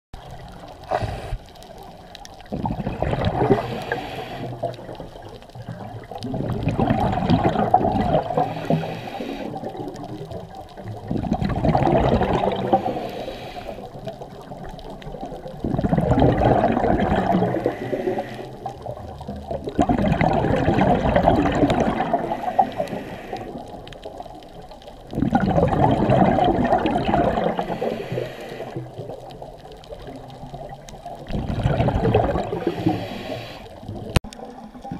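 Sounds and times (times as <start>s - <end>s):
exhaled bubbles rushing underwater: 0.2s - 34.9s.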